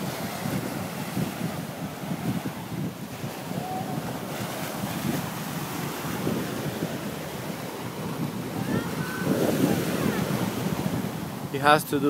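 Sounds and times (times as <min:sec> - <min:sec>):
ocean surf on shore: 0:00.0 - 0:12.0
wind buffeting microphone: 0:00.0 - 0:12.0.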